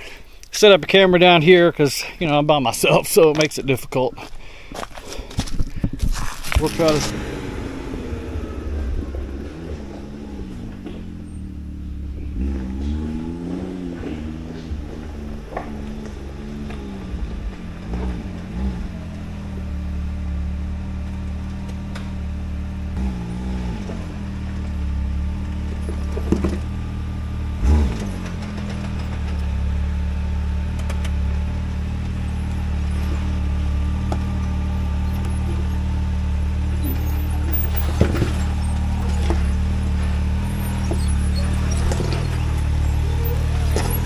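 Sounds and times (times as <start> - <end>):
engine running at low revs: 5.4 - 44.0.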